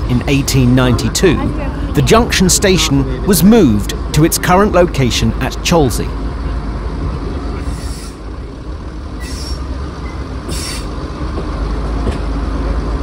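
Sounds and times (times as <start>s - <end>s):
wheels rumbling on track: 0.0s - 13.0s.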